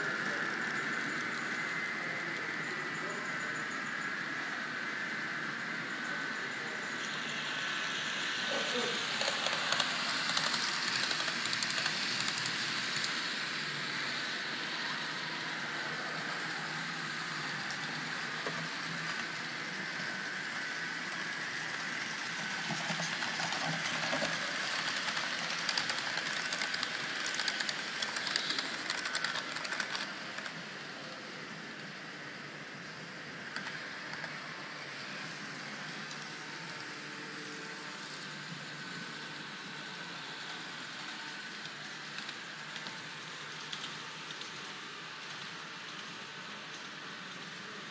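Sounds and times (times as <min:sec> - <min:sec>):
model train motors whirring: 0:00.0 - 0:47.9.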